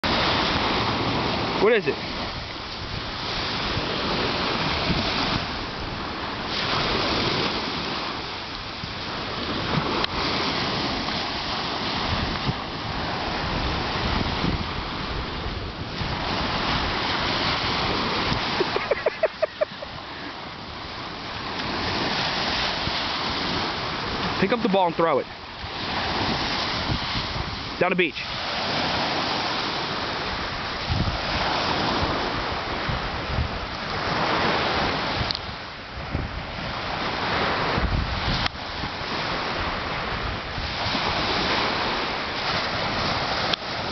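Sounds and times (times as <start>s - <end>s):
surf washing on shore: 0.0s - 43.9s
wind buffeting microphone: 0.0s - 43.9s.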